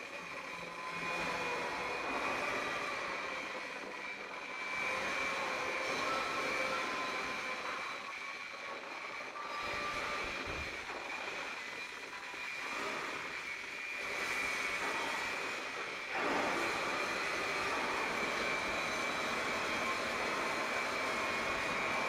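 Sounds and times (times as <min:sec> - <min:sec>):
hydraulic machine whine: 0:00.0 - 0:22.0.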